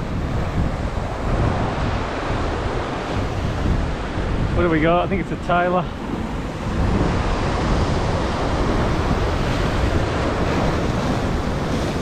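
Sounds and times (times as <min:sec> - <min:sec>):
wind rumbling on microphone: 0:00.0 - 0:12.0
surf breaking against rocks: 0:00.4 - 0:12.0.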